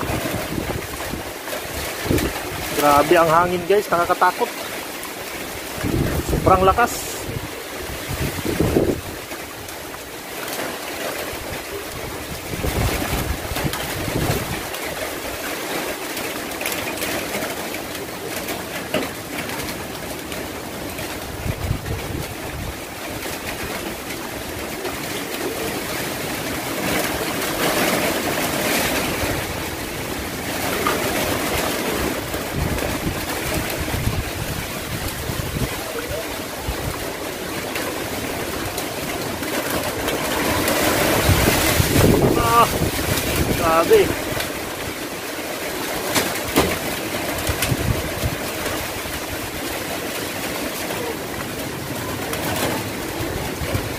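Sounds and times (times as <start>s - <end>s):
wind buffeting microphone: 0.0s - 4.1s, 4.9s - 10.3s, 11.2s - 15.5s, 20.6s - 53.9s
rain: 0.0s - 53.9s
typhoon wind gusting: 0.0s - 53.9s.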